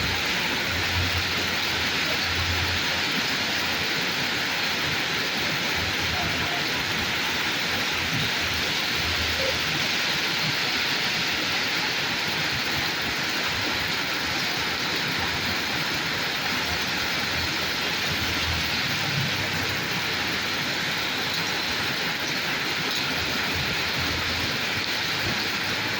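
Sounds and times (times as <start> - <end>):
steady rain hissing: 0.0 - 25.9.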